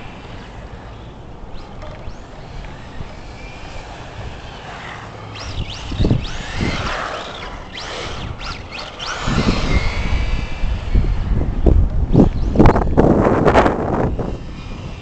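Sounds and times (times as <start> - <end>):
toy car electric motor whining: 0.0 - 15.0
wind buffeting microphone: 0.0 - 15.0.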